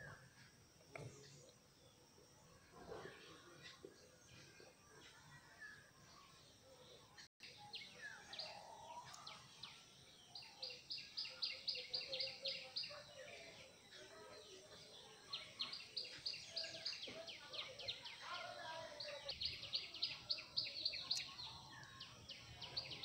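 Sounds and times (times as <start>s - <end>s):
background bird calls: 0.0s - 23.0s.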